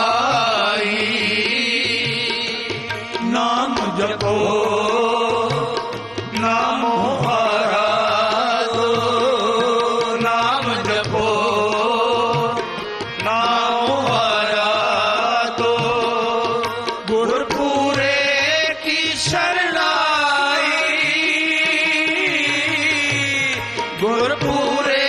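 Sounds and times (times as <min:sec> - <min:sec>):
harmonium chords: 0:00.0 - 0:25.0
men singing a hymn: 0:00.0 - 0:25.0
tabla beat: 0:00.0 - 0:25.0.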